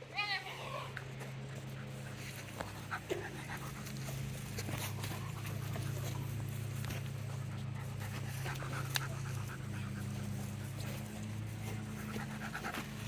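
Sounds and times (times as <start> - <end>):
low hum: 0.0 - 13.0
puppy panting: 1.0 - 13.0.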